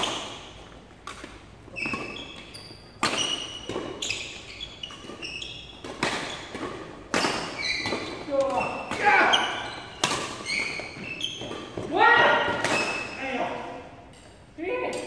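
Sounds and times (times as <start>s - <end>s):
rackets striking shuttlecock: 0.0s - 13.2s
sneakers squeaking on court floor: 0.0s - 13.9s.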